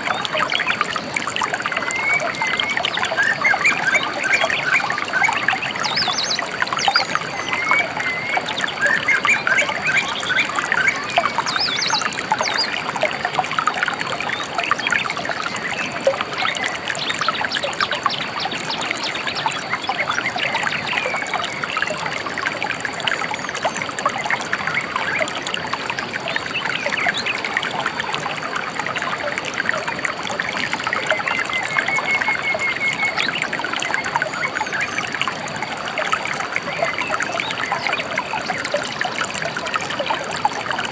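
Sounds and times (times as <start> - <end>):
river water trickling: 0.0 - 40.9.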